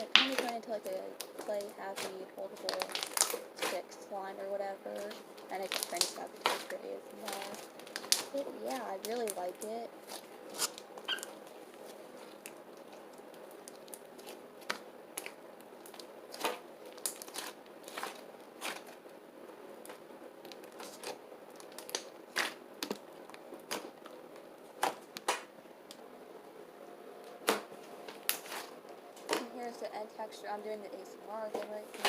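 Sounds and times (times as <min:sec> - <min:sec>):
slime crackling and popping: 0:00.0 - 0:19.2, 0:19.8 - 0:26.0, 0:27.3 - 0:29.8
faint steady hum: 0:00.0 - 0:32.0.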